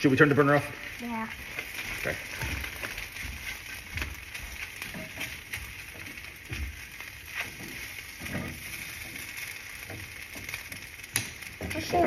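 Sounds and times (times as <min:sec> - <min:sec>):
eggs sizzling in a frying pan: 0:00.0 - 0:12.0
spatula stirring and scraping: 0:00.0 - 0:12.0.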